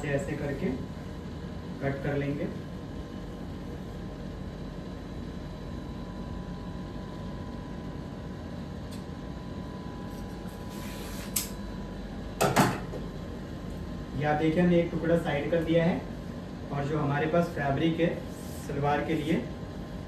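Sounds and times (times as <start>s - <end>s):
air conditioner hum: 0.0s - 20.0s.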